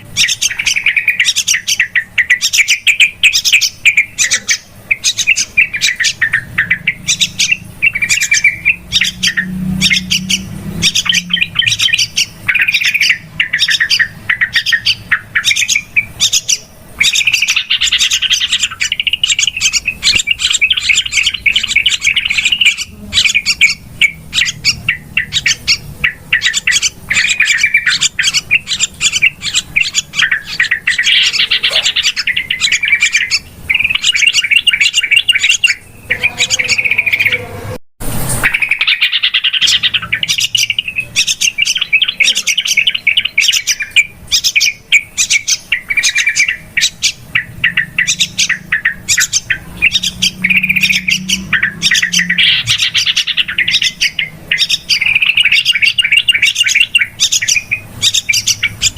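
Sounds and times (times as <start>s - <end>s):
bulbuls chattering: 0.0s - 58.9s.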